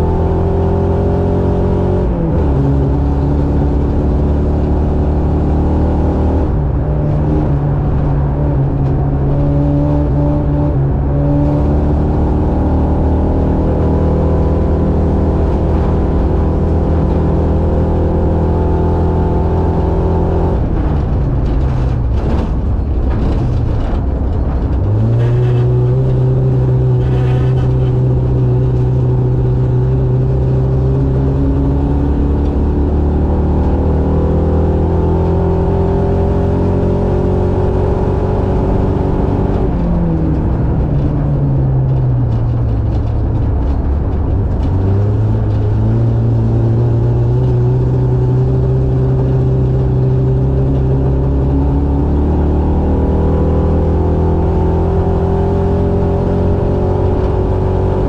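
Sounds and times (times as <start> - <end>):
buggy engine revving high: 0.0 - 58.0.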